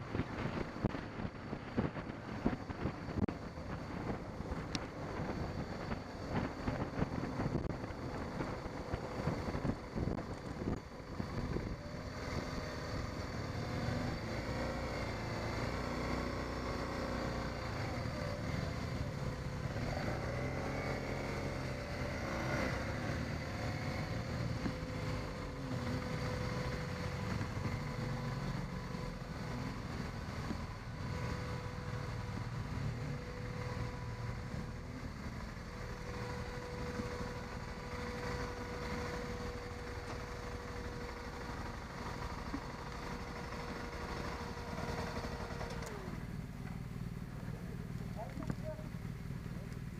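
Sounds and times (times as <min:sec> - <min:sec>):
motorcycle engine running: 0:00.0 - 0:49.9
wind and road noise: 0:00.0 - 0:49.9.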